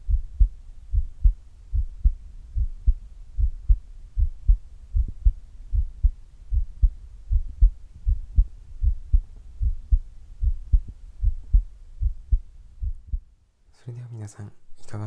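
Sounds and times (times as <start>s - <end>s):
heartbeat: 0.0s - 13.4s.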